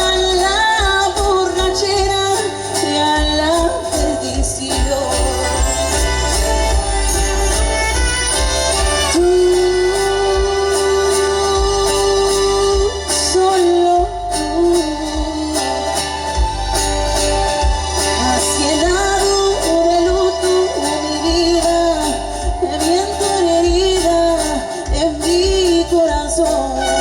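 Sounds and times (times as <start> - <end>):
live band playing a ballad: 0.0 - 27.0
person singing: 0.0 - 27.0
pulsing bass: 0.0 - 27.0.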